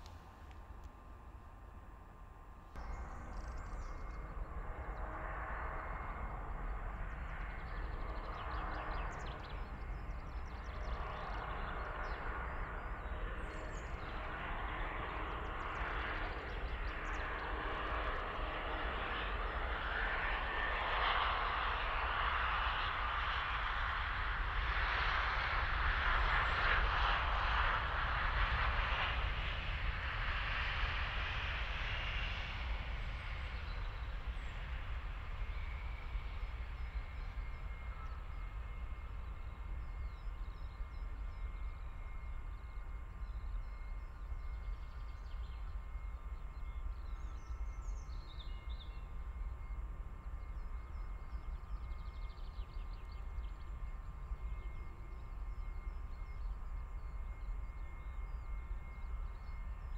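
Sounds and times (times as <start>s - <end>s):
engine whine: 0.0s - 59.9s.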